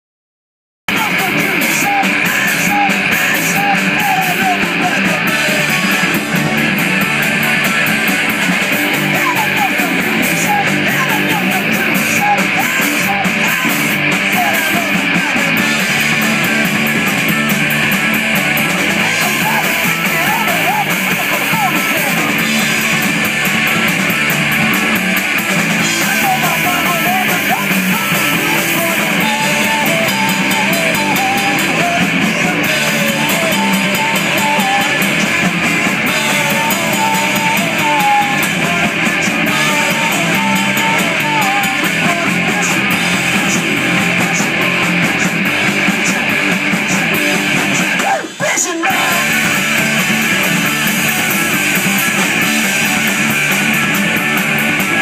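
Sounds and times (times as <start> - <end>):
live punk rock band: 0.9 - 55.0.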